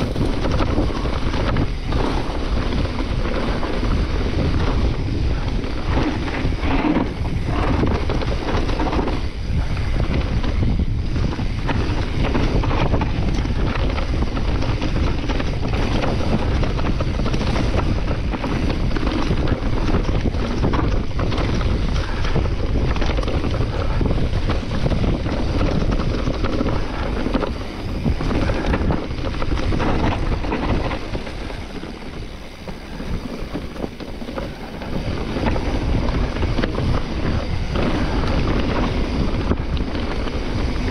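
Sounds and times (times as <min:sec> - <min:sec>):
bike rattling: 0:00.0 - 0:40.9
tyre noise on dirt trail: 0:00.0 - 0:40.9
wind buffeting microphone: 0:00.0 - 0:40.9.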